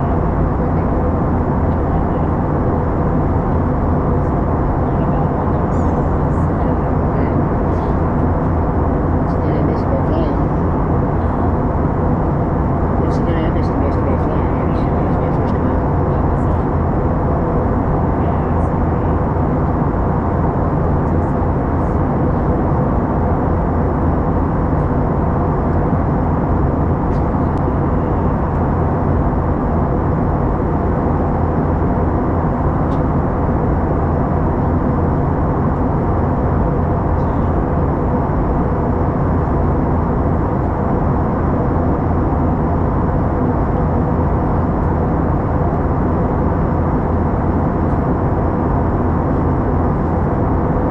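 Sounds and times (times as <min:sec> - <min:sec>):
airplane cabin engine noise: 0:00.0 - 0:50.9
faint steady hum: 0:00.0 - 0:50.9.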